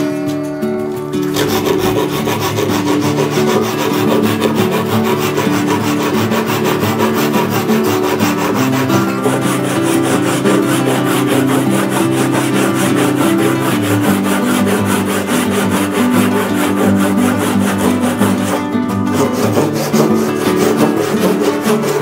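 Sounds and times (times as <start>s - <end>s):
pull saw cutting wood: 1.2s - 22.0s.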